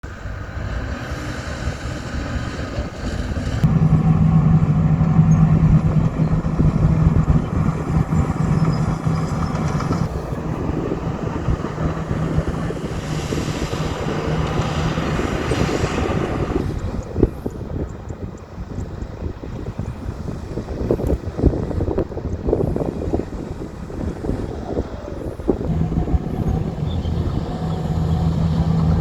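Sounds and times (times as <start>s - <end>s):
diesel engine of heavy machinery: 0.0s - 29.0s.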